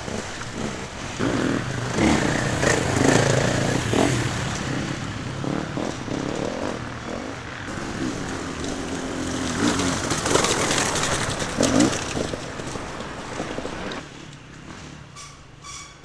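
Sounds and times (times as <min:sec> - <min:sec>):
dirt bike engines revving: 0:00.0 - 0:15.2.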